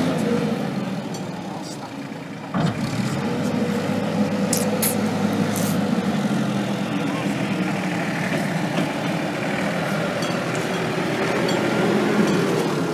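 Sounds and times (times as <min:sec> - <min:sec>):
forklift engine running: 0:00.0 - 0:12.9.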